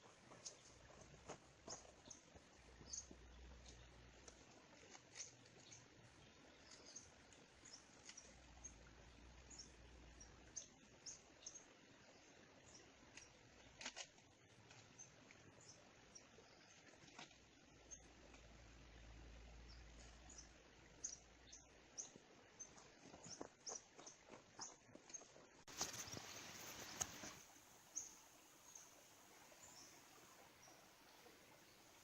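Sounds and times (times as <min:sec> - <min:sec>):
small ticks: 0:00.3 - 0:11.6, 0:12.7 - 0:18.6, 0:19.7 - 0:28.1.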